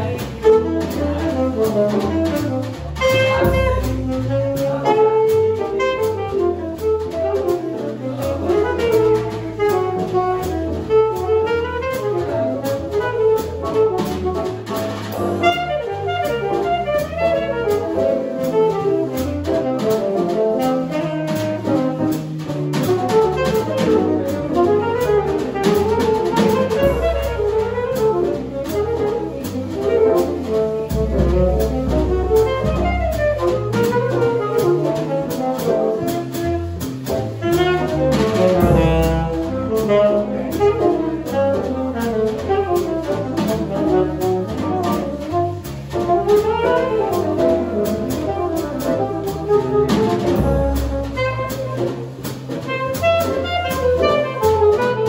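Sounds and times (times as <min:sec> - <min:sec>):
alto saxophone melody: 0:00.0 - 0:55.0
drum kit with cymbals: 0:00.0 - 0:55.0
electric bass: 0:00.0 - 0:55.0
piano: 0:00.0 - 0:55.0.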